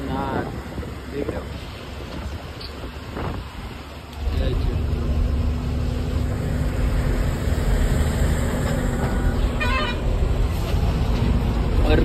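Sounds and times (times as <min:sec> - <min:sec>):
road noise: 0:00.0 - 0:12.0
truck engine rumble: 0:00.0 - 0:12.0.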